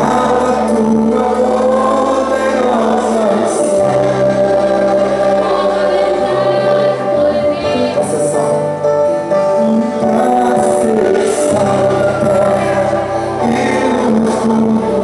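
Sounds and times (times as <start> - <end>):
worship music with singing: 0.0 - 15.0.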